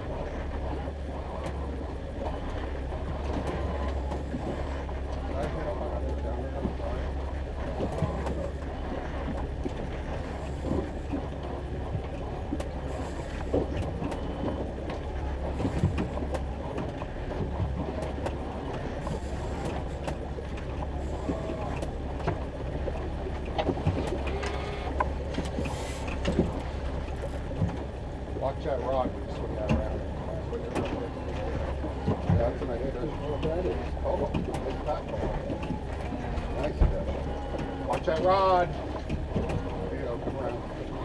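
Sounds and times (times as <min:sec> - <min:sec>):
boat motor running: 0:00.0 - 0:41.0
gear clattering on hull: 0:00.0 - 0:41.0.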